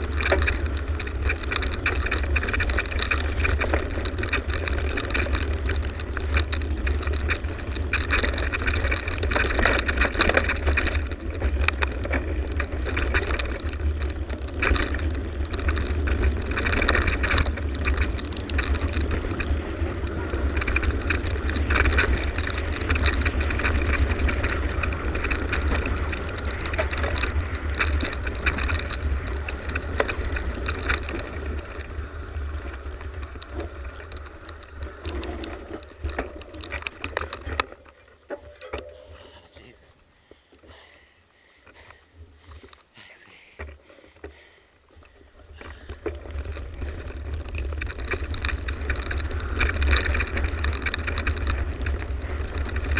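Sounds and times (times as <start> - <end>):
bike clattering over bumps: 0.0 - 39.5, 43.6 - 52.9
tyres rumbling on dirt: 0.0 - 39.9, 43.7 - 52.9.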